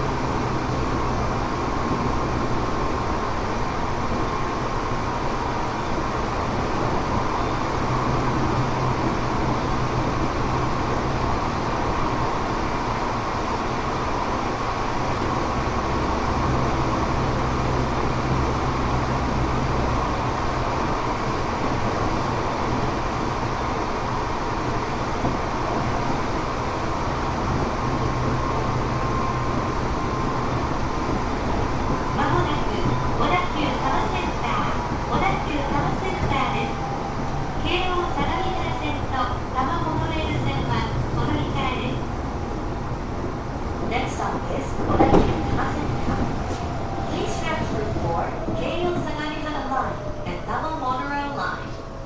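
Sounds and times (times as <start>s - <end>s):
train wheel and rail rumble: 0.0s - 52.0s.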